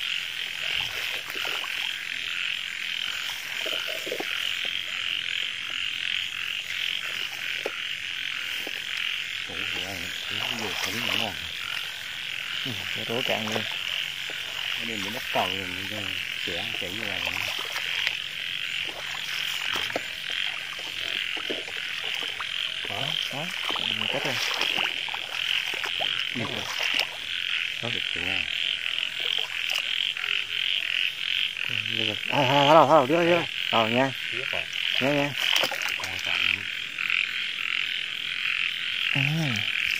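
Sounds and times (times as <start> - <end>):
frogs croaking: 0.0 - 39.9
high-pitched insect chorus: 0.0 - 39.9.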